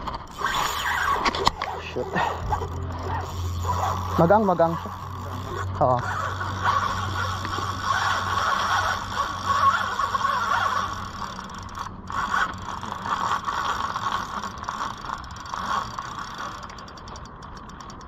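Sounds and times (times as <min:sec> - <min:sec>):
fishing reel ratcheting buzz: 0:00.0 - 0:18.0.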